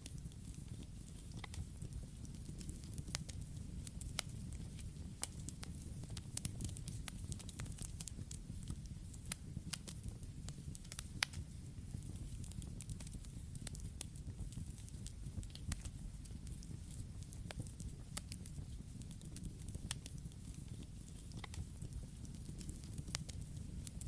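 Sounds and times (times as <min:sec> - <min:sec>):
campfire flames rumbling: 0:00.0 - 0:24.0
wood crackling and popping: 0:00.0 - 0:24.0.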